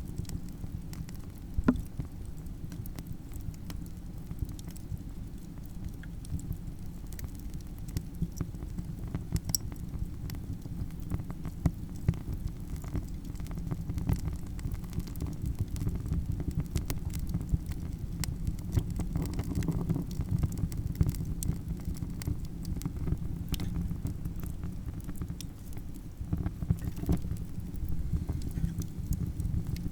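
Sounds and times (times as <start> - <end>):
burning wood popping and snapping: 0.0 - 2.9, 3.5 - 29.9
low rumble of flames: 0.0 - 29.9.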